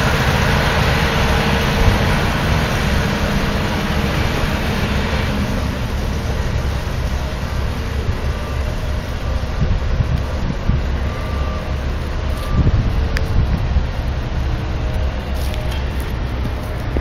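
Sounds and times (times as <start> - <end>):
diesel locomotive engine running: 0.0 - 17.0
low rumble: 0.0 - 17.0.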